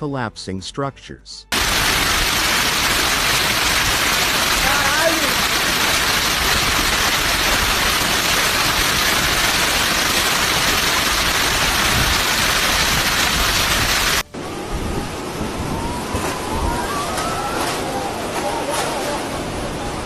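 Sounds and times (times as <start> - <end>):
heavy rain pouring: 1.5 - 20.0.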